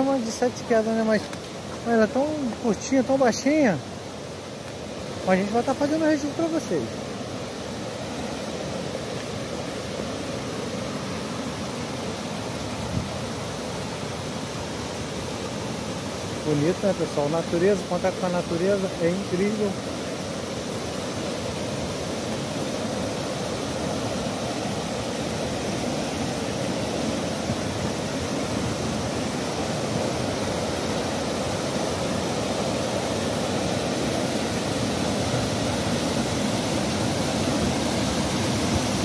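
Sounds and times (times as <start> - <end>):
river rapids rushing: 0.0 - 39.0.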